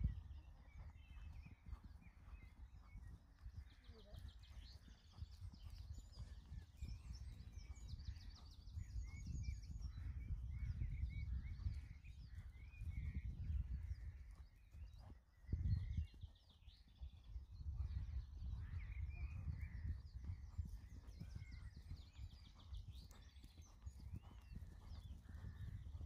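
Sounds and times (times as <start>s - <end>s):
small birds singing: 0.0s - 26.0s.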